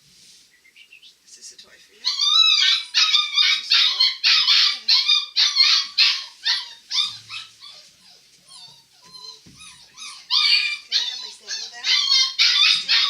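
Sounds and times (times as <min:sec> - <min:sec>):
puppy yelping and whining: 0:02.0 - 0:13.0.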